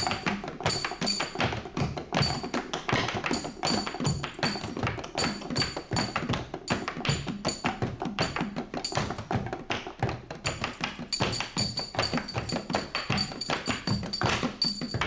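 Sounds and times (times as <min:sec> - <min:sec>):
fast percussion hits: 0:00.0 - 0:15.0.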